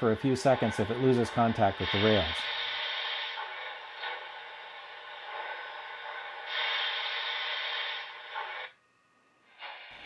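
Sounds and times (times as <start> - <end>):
model train motor whirring: 0.0 - 8.8.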